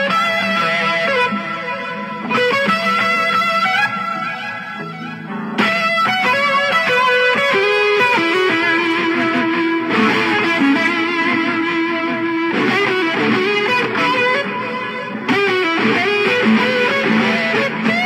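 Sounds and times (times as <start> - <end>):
overdriven electric guitar: 0.0 - 18.0.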